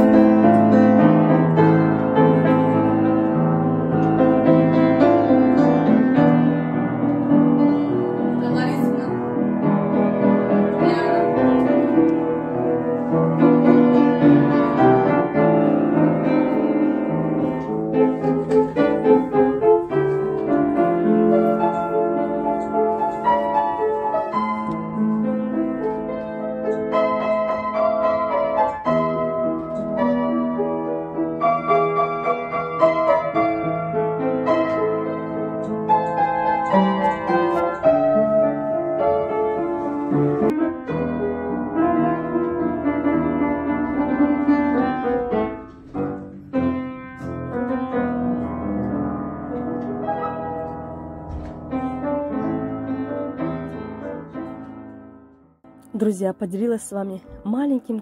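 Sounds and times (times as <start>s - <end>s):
upright piano playing chords: 0.0s - 58.0s.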